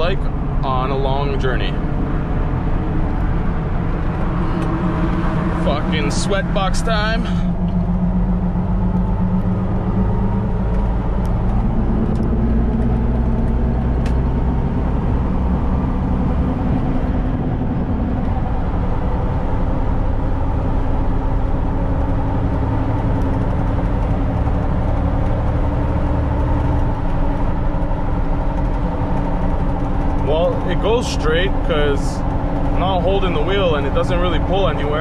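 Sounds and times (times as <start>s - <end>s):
car engine droning: 0.0s - 35.0s
tire hum and road noise: 0.0s - 35.0s.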